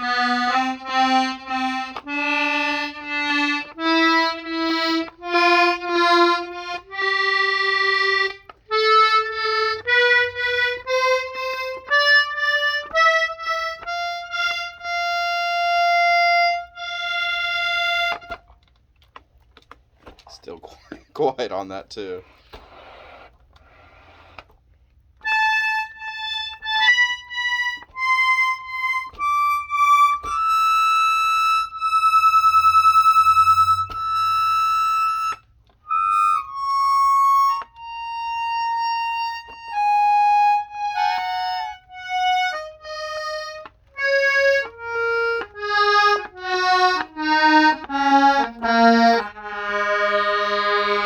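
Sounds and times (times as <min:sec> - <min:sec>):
accordion single held notes: 0:00.0 - 0:18.6, 0:25.2 - 0:51.0.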